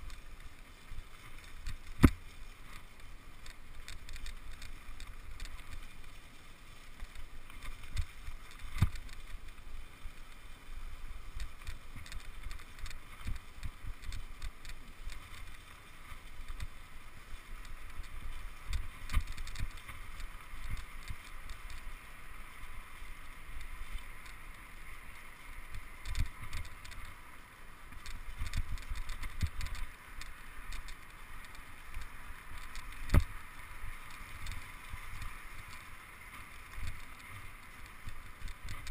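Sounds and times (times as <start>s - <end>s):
bicycle tyres rolling on leaves: 0.0s - 38.9s.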